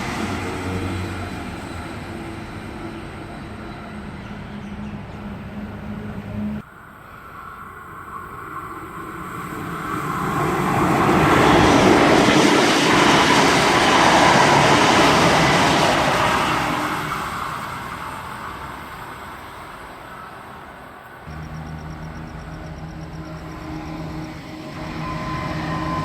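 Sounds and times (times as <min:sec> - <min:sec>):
train passing with rail noise: 0:00.0 - 0:26.0.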